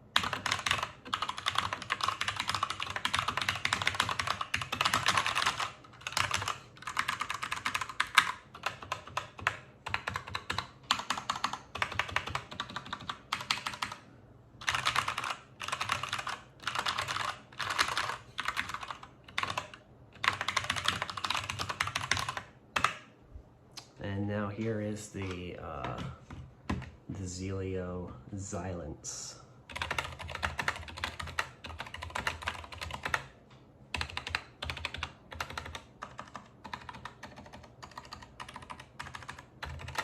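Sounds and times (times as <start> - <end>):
mechanical keyboard typing: 0.2 - 14.0, 14.6 - 23.0, 29.7 - 40.0.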